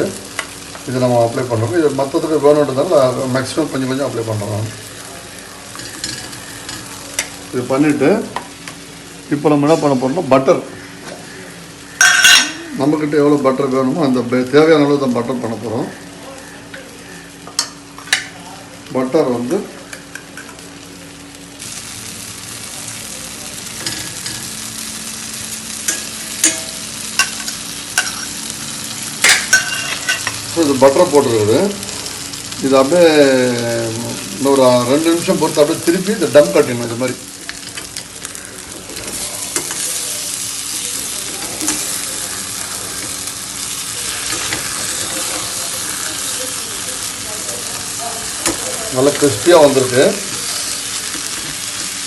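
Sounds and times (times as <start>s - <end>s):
chicken sizzling in a pan: 0.0s - 52.0s.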